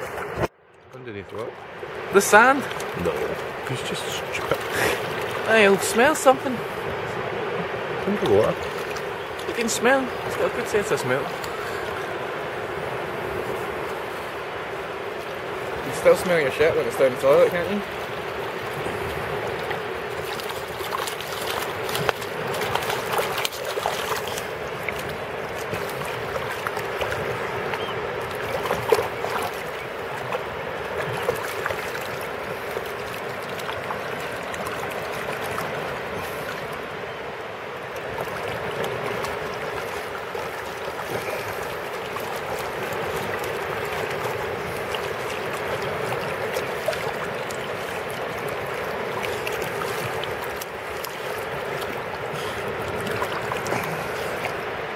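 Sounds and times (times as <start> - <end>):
shallow seawater splashing: 1.3 - 54.9.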